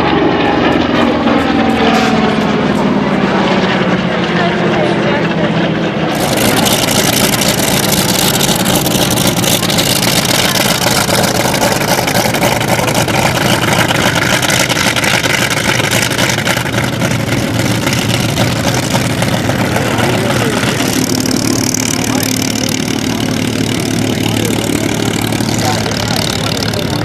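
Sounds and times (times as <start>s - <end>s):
radial aircraft engine running: 0.0s - 27.0s.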